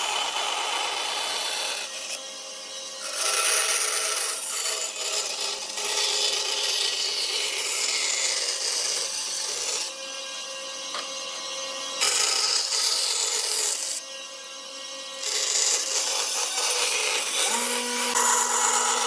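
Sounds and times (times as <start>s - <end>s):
tool rasping wood: 0.0s - 2.2s, 3.0s - 10.0s, 12.0s - 14.1s, 15.0s - 19.0s.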